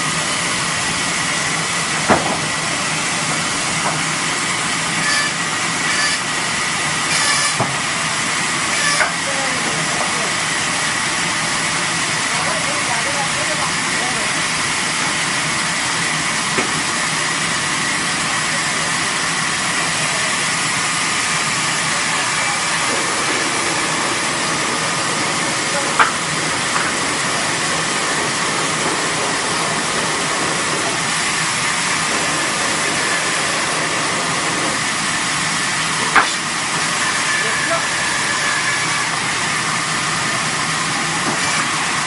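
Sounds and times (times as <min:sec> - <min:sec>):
machinery hiss with whining tones: 0:00.0 - 0:42.0.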